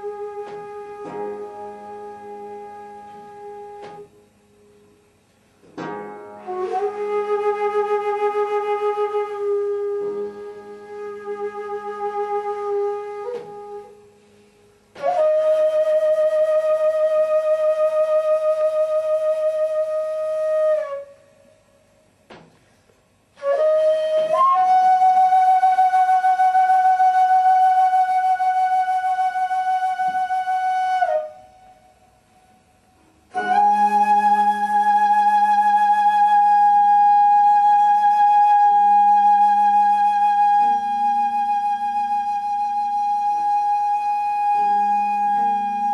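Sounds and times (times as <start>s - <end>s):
wind instrument long held notes: 0.0s - 4.4s, 6.3s - 21.4s, 23.4s - 32.0s, 33.3s - 45.9s.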